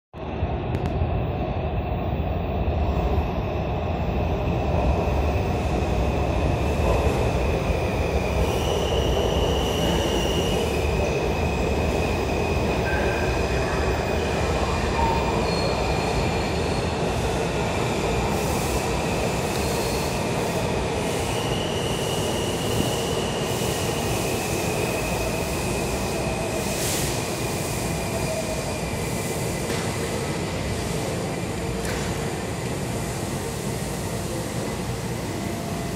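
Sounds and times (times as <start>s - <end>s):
subway train rumble: 0.1s - 35.9s.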